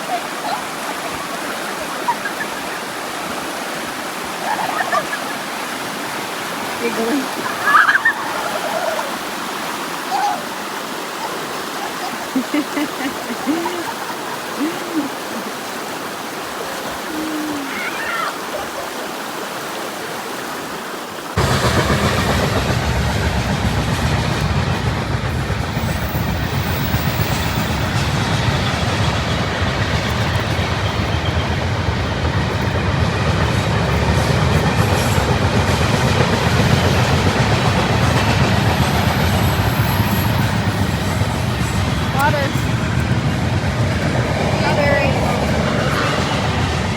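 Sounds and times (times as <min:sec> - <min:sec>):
rushing river water: 0:00.0 - 0:46.9.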